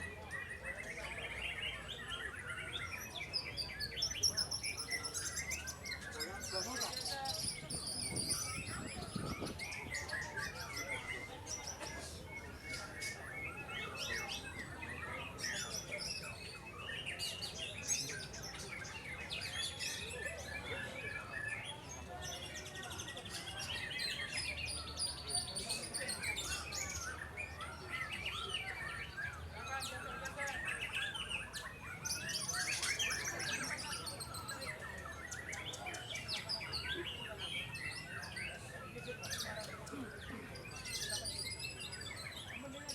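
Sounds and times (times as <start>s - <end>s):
songbirds singing: 0.0s - 42.9s.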